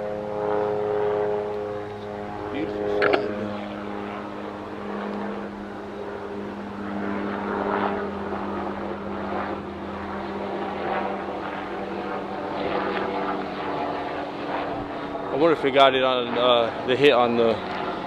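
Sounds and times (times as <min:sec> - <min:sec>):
steady engine-like drone: 0:00.0 - 0:18.0.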